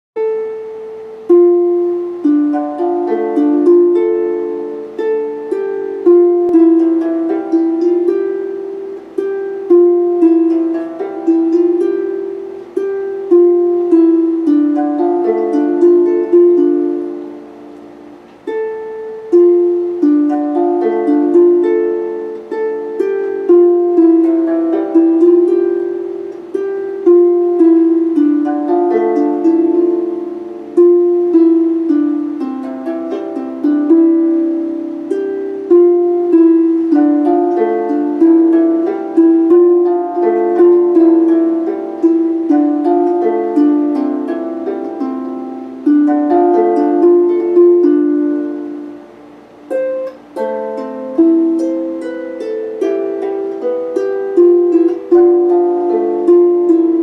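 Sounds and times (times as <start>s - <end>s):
harp melody: 0.2s - 57.0s.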